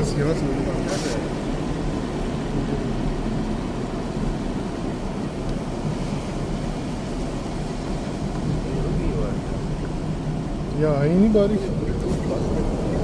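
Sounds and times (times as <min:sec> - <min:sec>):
tyres on wet road: 0:00.0 - 0:13.0
wind through open car window: 0:00.0 - 0:13.0.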